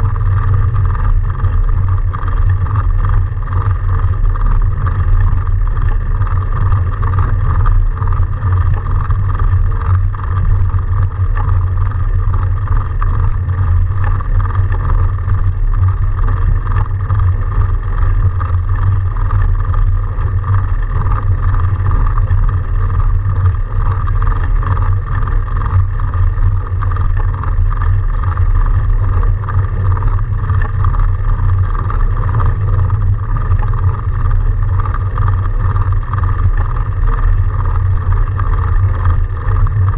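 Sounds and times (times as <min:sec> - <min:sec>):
wind buffeting microphone: 0:00.0 - 0:39.9
bike tyres rushing through snow: 0:00.1 - 0:39.9.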